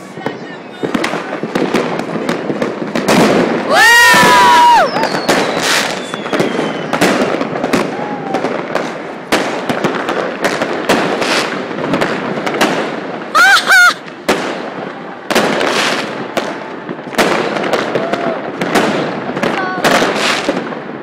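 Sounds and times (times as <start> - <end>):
fireworks and firecrackers banging: 0.0 - 21.0.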